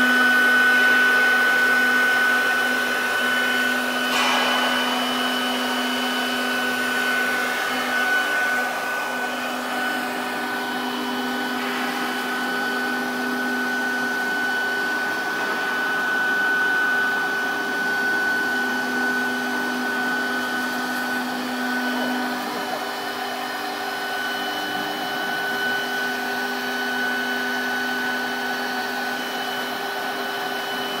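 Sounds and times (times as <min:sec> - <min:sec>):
router spindle whining: 0:00.0 - 0:31.0.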